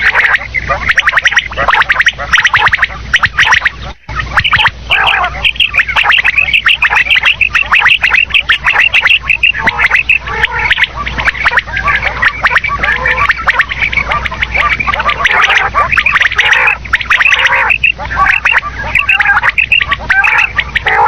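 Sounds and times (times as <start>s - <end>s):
quail calling: 0.0s - 21.0s.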